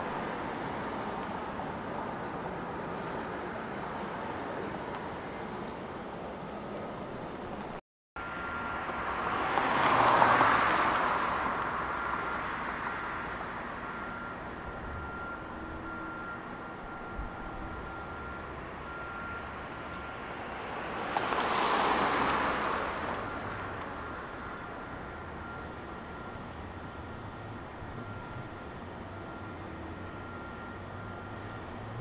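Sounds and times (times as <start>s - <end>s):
steady traffic hum: 0.0s - 32.0s
vehicles passing by: 0.0s - 32.0s.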